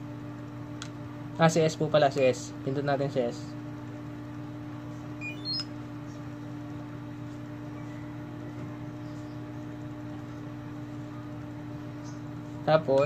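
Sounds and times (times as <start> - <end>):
fan running with low hum: 0.0 - 13.0.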